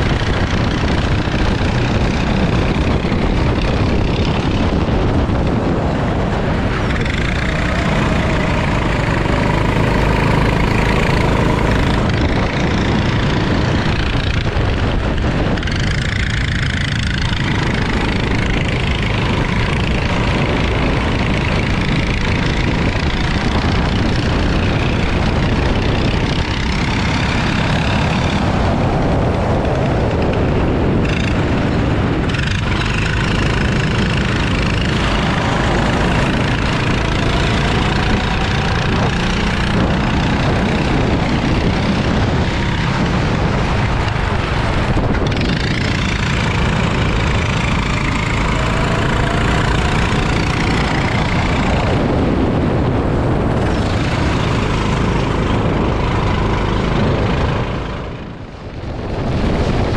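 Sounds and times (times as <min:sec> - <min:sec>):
go-kart engine racing: 0:00.0 - 0:59.9
wind on microphone: 0:00.0 - 0:59.9.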